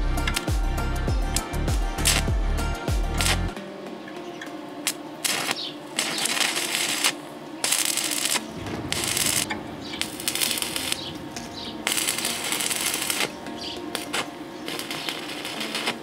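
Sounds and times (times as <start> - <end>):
welding arc crackling and hissing: 0.0 - 3.6, 4.8 - 16.0.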